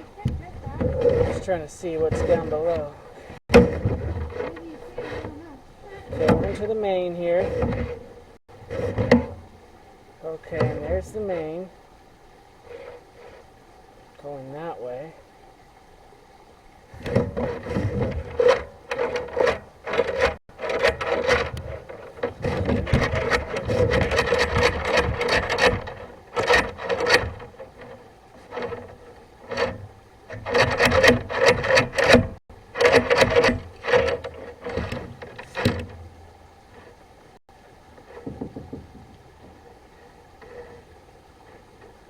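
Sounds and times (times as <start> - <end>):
cable scraping in drain: 0.0 - 9.6, 10.2 - 11.7, 12.6 - 13.6, 16.9 - 37.0, 38.0 - 42.0
steady hum: 0.0 - 42.0.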